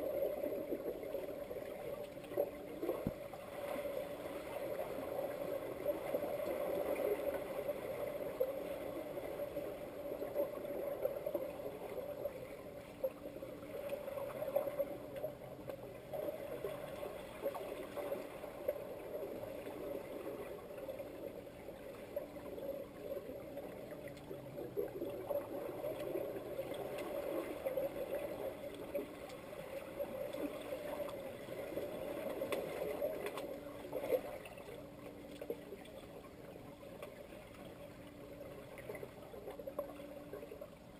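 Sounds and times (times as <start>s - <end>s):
bubbling and clicks from kicking: 0.0s - 3.9s, 4.6s - 40.9s
underwater pool water wash: 0.0s - 40.9s.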